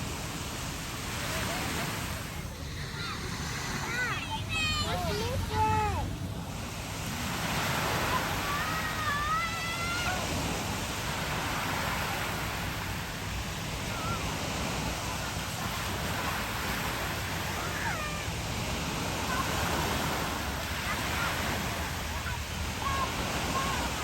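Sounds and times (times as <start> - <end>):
ocean surf rushing: 0.0 - 24.0.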